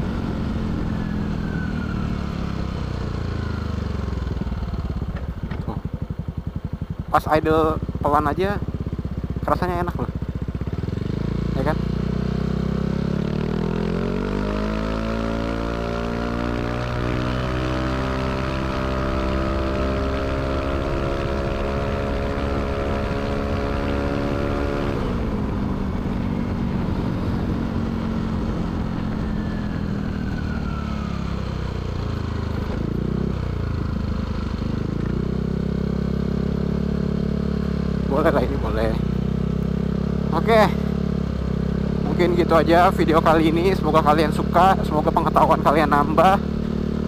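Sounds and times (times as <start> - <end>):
scooter engine revving: 0.0 - 47.0.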